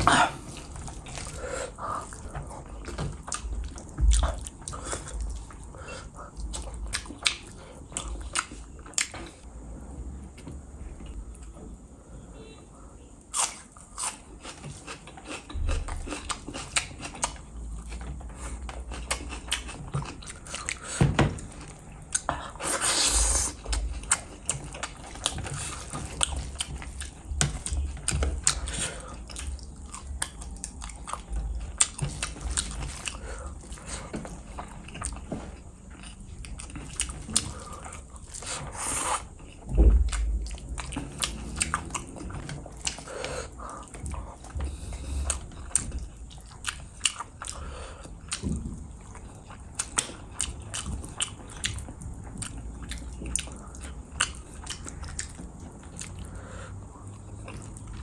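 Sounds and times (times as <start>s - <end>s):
person chewing food: 0.0s - 9.5s, 13.2s - 58.0s.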